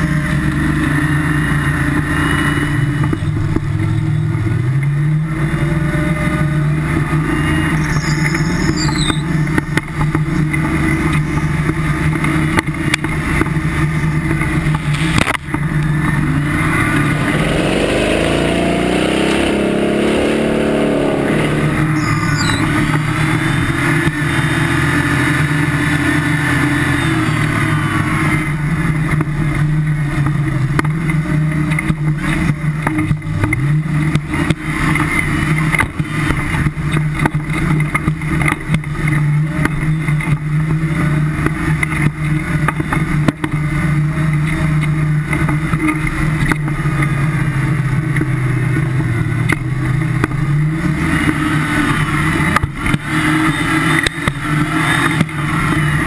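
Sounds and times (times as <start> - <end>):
off-road buggy engine revving: 0.0 - 56.0.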